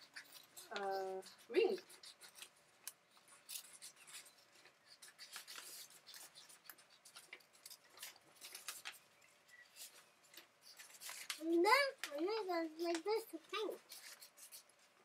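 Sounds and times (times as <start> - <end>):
scissors snipping paper: 0.0 - 9.0, 9.8 - 15.0
paper rustle: 0.0 - 15.0.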